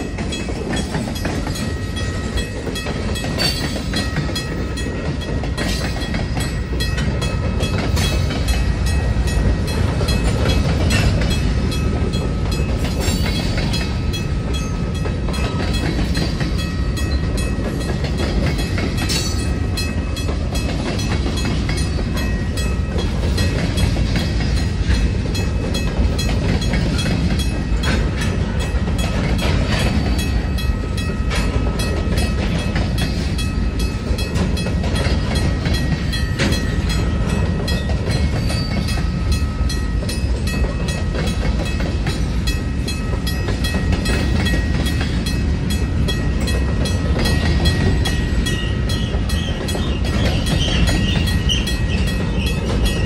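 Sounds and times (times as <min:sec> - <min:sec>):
train wheels rumbling on rail: 0:00.0 - 0:53.0
wheels clacking over rail joints: 0:00.0 - 0:53.0.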